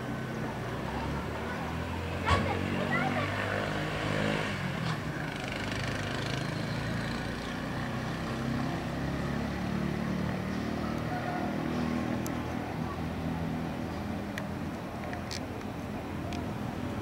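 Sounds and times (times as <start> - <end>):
distant motorcycle engines humming: 0.0 - 17.0.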